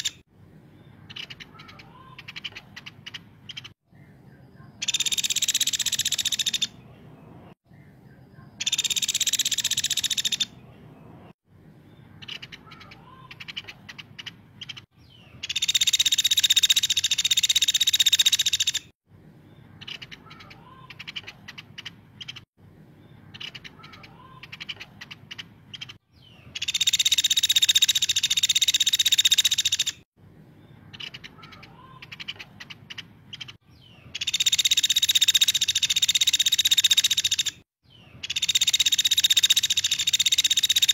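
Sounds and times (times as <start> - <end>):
woodpecker trilling calls: 0.0 - 0.2, 1.0 - 3.8, 4.7 - 6.8, 8.6 - 10.6, 12.2 - 18.9, 19.8 - 22.5, 23.2 - 30.0, 30.9 - 40.9.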